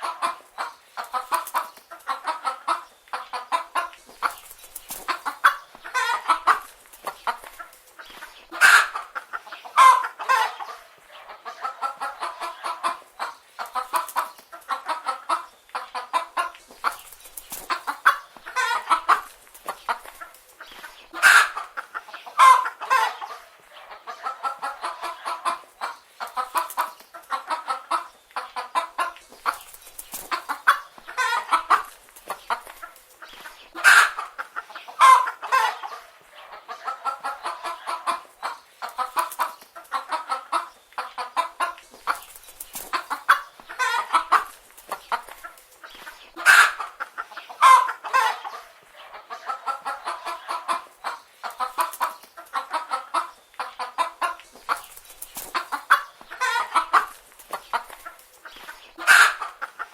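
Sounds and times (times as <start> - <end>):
hens clucking: 0.0 - 59.9
chicken squawk: 5.0 - 7.7, 8.4 - 17.0, 17.7 - 29.6, 30.2 - 42.2, 42.9 - 54.8, 55.5 - 59.9.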